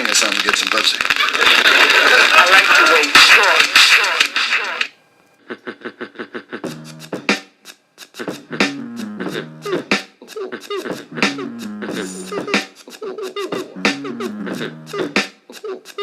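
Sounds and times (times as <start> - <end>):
beatbox-style percussive music: 0.0 - 16.0.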